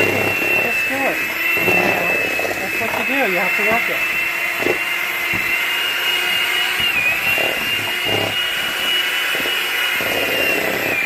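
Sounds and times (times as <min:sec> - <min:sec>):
mixer beaters knocking in bowl: 0:00.0 - 0:10.8
electric hand mixer whining: 0:00.0 - 0:11.0.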